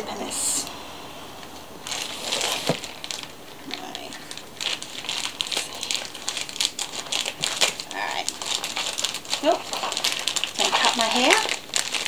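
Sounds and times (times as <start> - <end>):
plastic satchel crinkling: 1.8 - 12.0.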